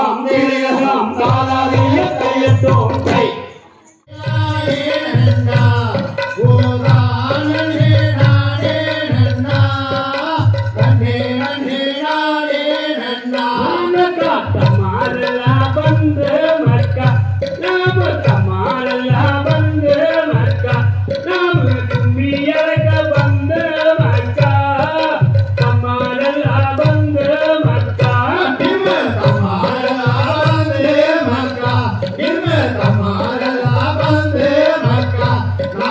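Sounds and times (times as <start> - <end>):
folk singing: 0.0 - 35.9.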